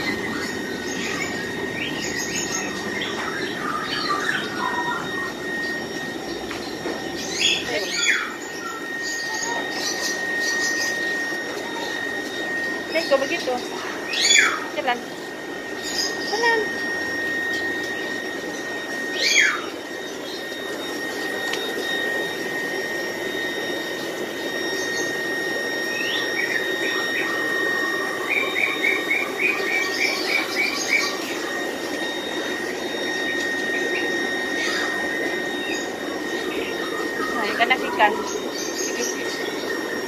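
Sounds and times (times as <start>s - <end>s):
small birds chirping: 0.0s - 22.2s, 23.8s - 40.0s
steady high whine: 0.0s - 40.0s.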